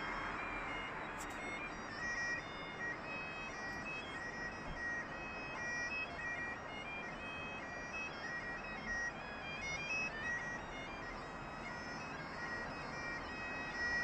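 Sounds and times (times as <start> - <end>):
bagpipes playing a tune: 0.0 - 14.0.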